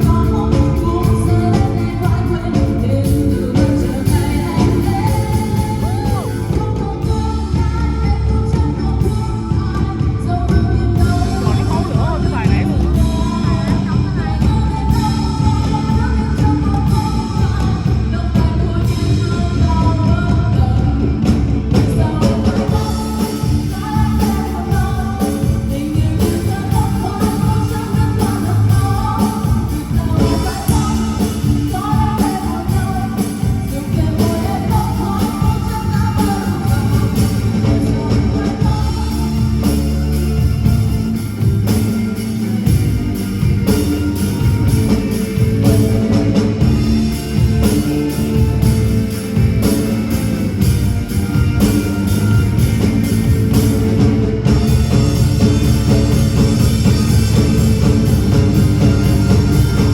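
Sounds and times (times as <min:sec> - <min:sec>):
live band with guitar bass drums: 0:00.0 - 0:59.9
person singing pop-rock song: 0:00.0 - 0:59.9.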